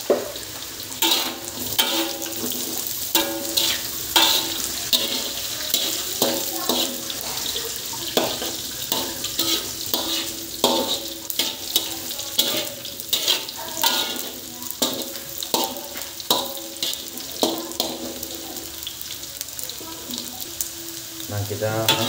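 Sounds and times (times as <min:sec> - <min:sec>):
food sizzling in hot oil: 0:00.0 - 0:22.0
metal spatula scraping and knocking wok: 0:01.0 - 0:18.8, 0:21.8 - 0:22.0.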